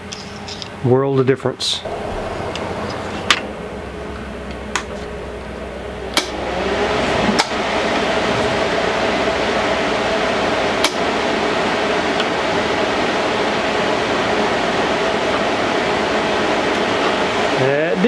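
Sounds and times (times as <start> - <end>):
welder cooling fan running: 1.6 - 18.0
wire feed motor humming: 1.9 - 17.8.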